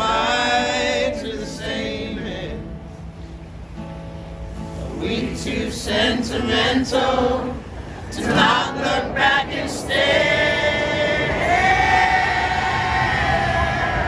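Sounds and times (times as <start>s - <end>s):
group singing: 0.0s - 2.7s, 4.9s - 14.0s.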